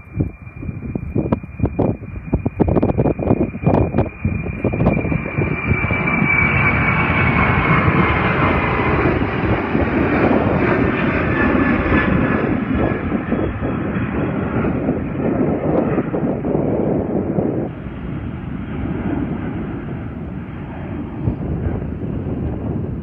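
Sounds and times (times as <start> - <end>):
jet engine roar with fan whine: 0.0 - 23.0.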